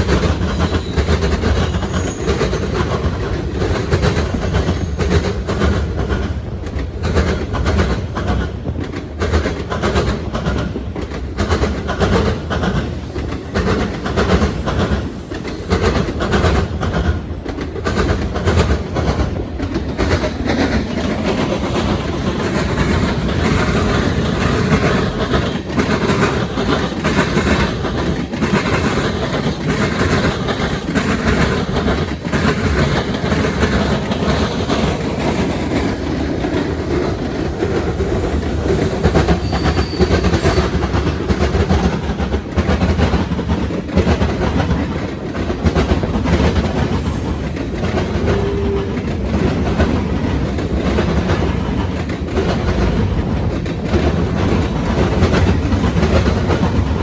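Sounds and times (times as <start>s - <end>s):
train wheels clattering over crossings: 0.0s - 57.0s.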